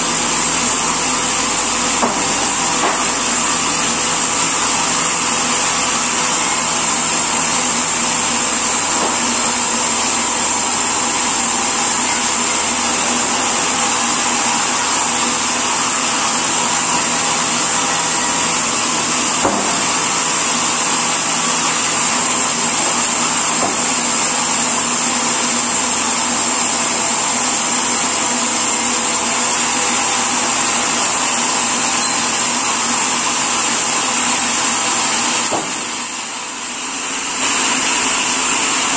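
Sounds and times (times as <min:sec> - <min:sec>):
sawmill machinery whining: 0:00.0 - 0:38.9.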